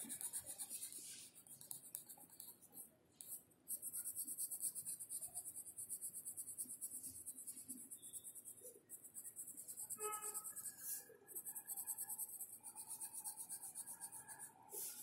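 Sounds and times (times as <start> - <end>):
pencil scratching on paper: 0.0 - 15.0.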